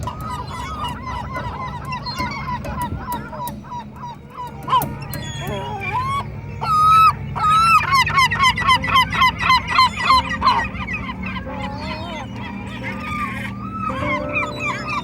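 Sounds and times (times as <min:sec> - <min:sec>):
fowl calling rapidly: 0:00.0 - 0:15.0.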